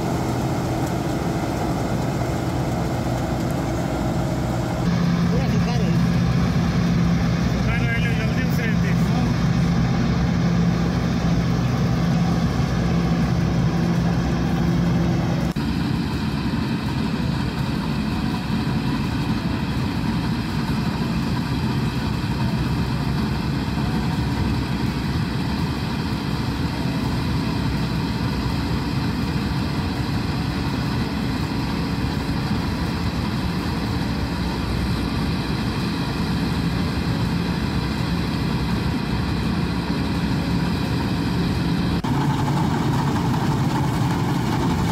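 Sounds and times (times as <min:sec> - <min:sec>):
combine harvester running: 0:00.0 - 0:44.9.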